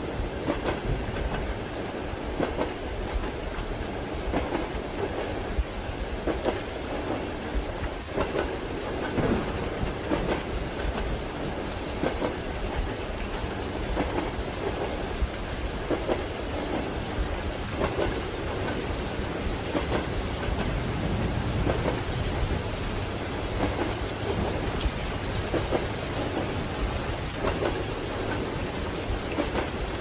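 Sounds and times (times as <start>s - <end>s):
steady rain: 0.0s - 30.0s
train wheels knocking on rails: 4.2s - 30.0s.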